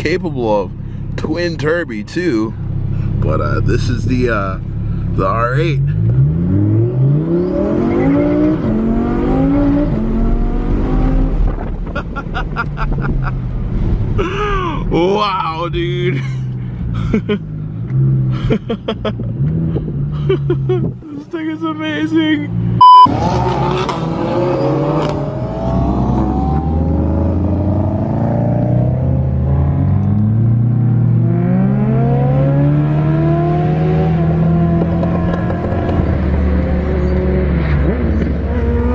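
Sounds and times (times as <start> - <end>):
car engine accelerating: 0.0 - 15.0, 22.5 - 38.9.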